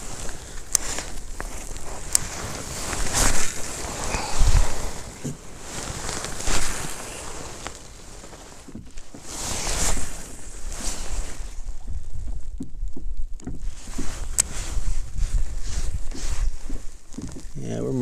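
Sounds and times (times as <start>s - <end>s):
water washing against kayak hull: 0.0s - 18.0s
wind buffeting microphone: 0.0s - 18.0s.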